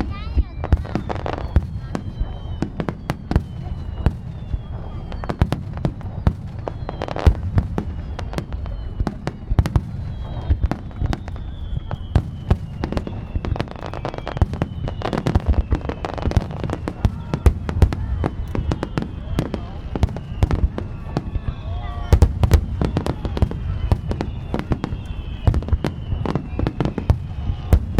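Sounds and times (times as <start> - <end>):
falling firework whistles: 0.0 - 27.9.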